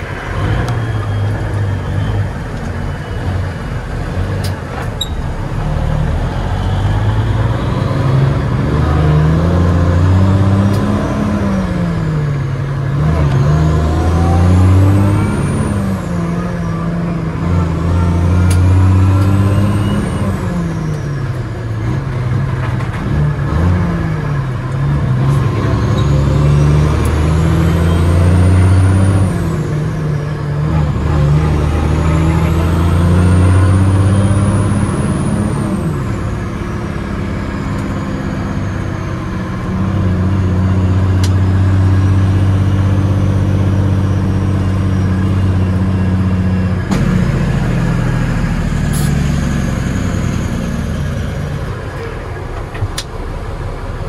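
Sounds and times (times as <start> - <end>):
truck diesel engine shifting gears: 0.0 - 54.0.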